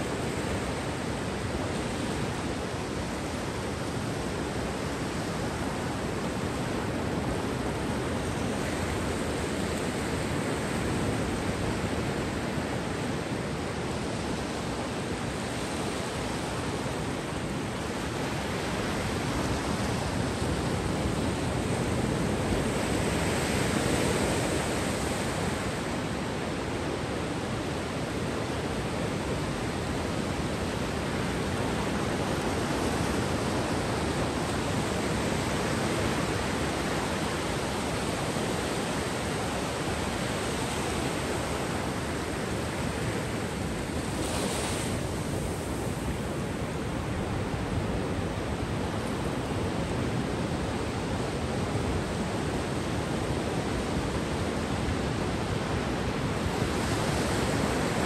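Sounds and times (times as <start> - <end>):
sea waves washing onto beach: 0.0 - 58.0.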